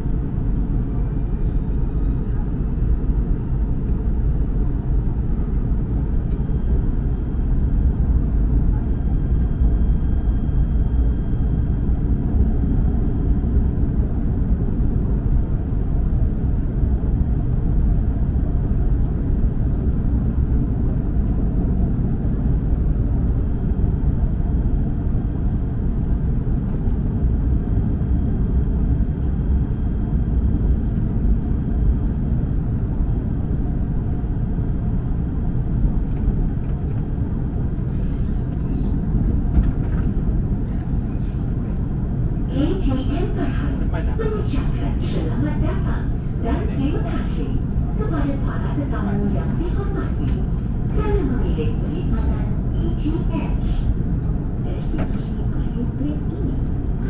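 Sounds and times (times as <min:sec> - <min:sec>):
train rumble inside cabin: 0:00.0 - 0:57.0.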